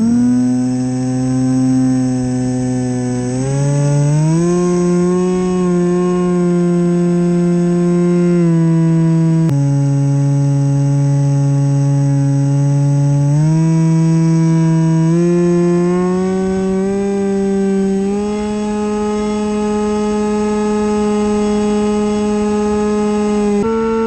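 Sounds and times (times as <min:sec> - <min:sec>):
rc plane motor and propeller whining: 0:00.0 - 0:24.0.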